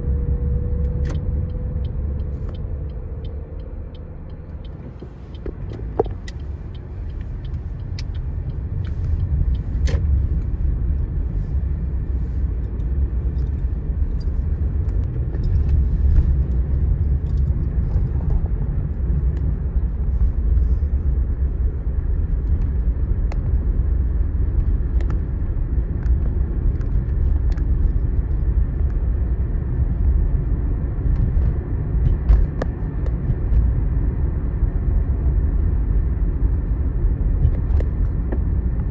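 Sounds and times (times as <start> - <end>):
car engine and tyre noise: 0.0 - 38.9.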